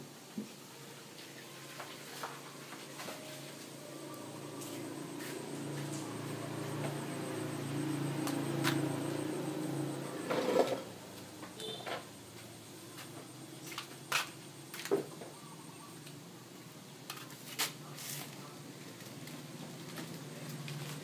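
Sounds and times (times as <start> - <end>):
street food stall din: 0.0 - 21.0.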